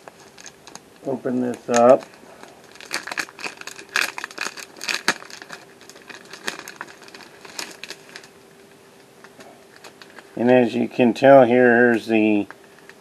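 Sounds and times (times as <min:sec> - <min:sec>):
plastic packaging crinkling: 0:00.0 - 0:08.4, 0:09.2 - 0:10.5, 0:12.2 - 0:13.0.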